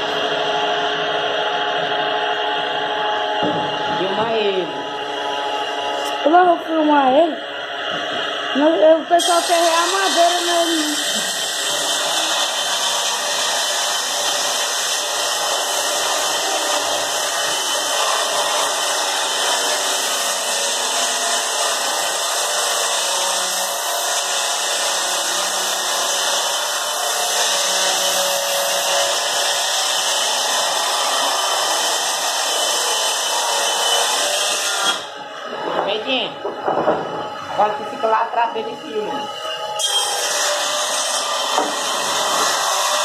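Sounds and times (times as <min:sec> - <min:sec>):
power tool whirring: 0:00.0 - 0:35.5, 0:36.5 - 0:43.0.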